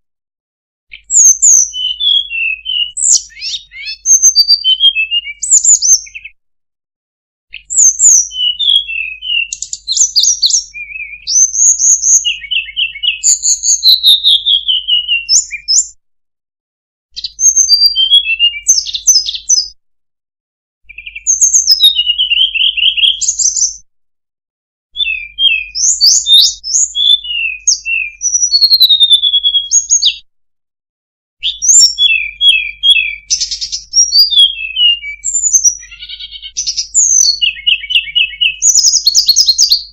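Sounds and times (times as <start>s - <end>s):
songbird chirps trills and whistles: 0.9s - 6.4s, 7.5s - 16.0s, 17.1s - 19.8s, 20.8s - 23.9s, 25.0s - 30.3s, 31.4s - 39.9s.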